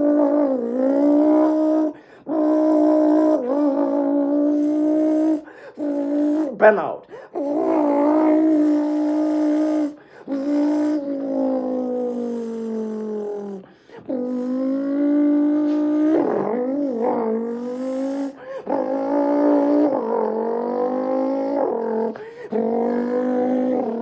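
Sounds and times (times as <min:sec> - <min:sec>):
man imitating engine revving: 0:00.0 - 0:24.0.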